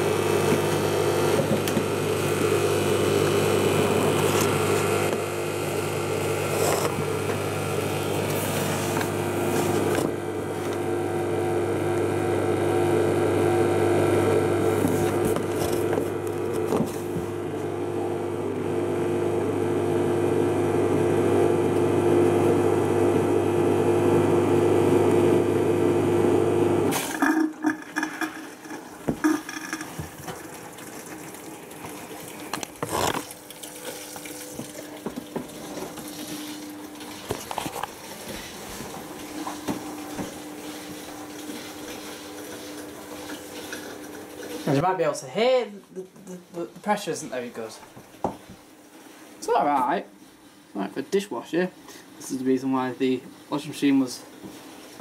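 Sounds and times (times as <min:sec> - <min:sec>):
dishwasher humming: 0:00.0 - 0:45.6.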